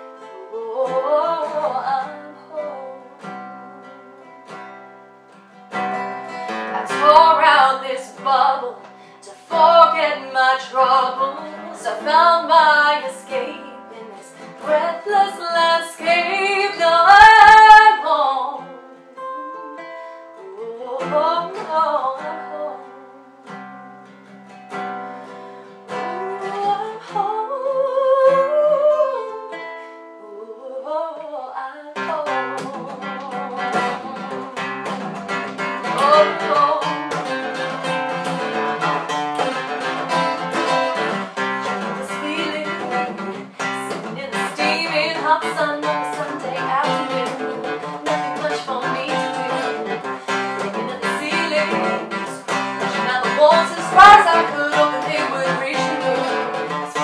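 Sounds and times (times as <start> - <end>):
woman singing: 0.0 - 4.0, 5.7 - 23.6, 25.9 - 57.0
acoustic guitar: 0.0 - 57.0.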